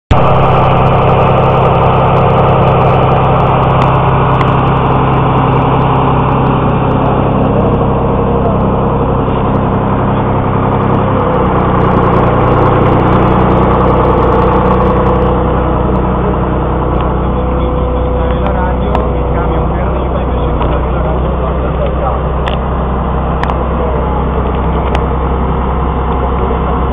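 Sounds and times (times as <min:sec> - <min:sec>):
vehicle engine running: 0:00.1 - 0:26.9.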